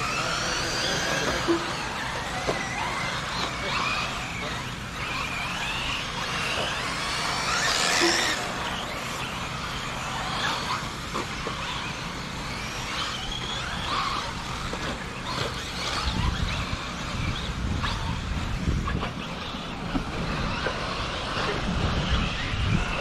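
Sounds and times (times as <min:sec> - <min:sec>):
rc car motors whining: 0:00.0 - 0:23.0.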